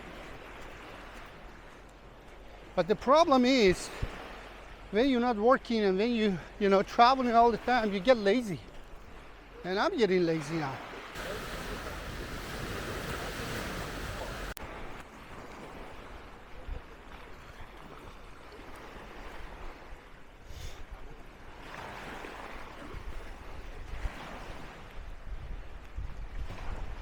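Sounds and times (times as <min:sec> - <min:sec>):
small waves washing on sand: 0:00.0 - 0:27.0.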